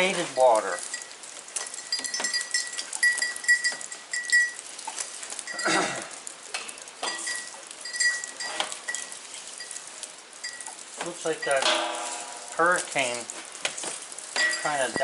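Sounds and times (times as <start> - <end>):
rain pattering and dripping: 0.0 - 15.0.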